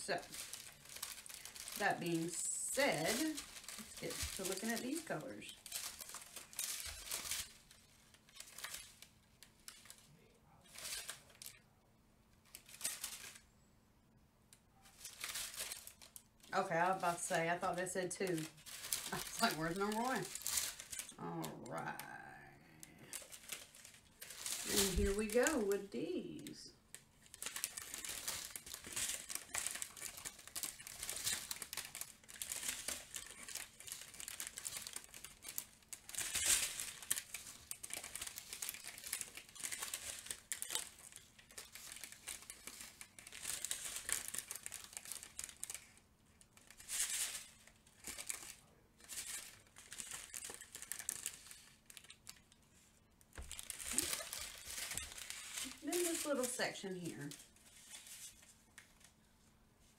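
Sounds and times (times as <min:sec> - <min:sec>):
plastic bags crinkling: 0:00.0 - 0:11.7, 0:12.4 - 0:13.5, 0:14.8 - 0:59.2.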